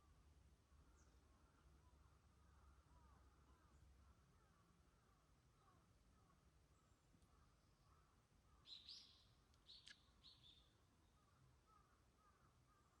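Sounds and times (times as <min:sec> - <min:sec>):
low bird chirping: 0:00.0 - 0:13.0.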